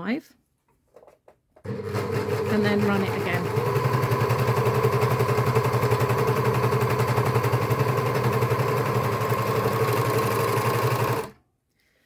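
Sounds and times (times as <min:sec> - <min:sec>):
motor hum: 0:01.6 - 0:11.4.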